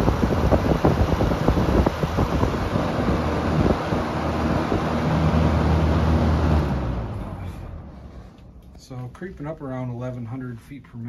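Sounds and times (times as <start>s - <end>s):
box fan airflow buffeting: 0.0s - 11.0s.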